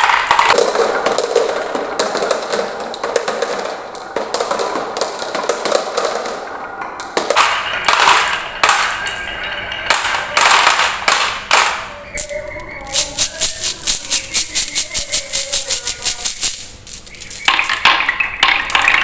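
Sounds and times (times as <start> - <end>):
marbles clattering down marble run: 0.0 - 19.0.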